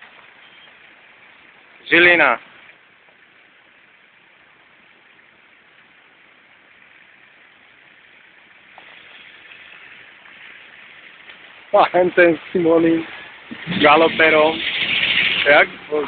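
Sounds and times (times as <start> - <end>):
vehicles idling and creeping: 0.0 - 16.0.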